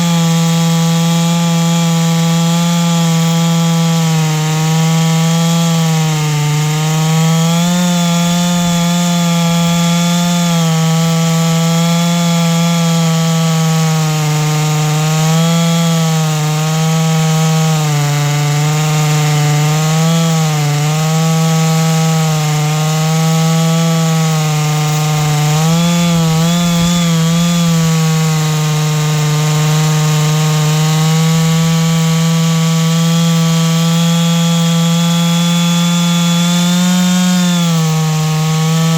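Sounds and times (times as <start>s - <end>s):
chainsaw cutting through log: 0.0s - 38.9s.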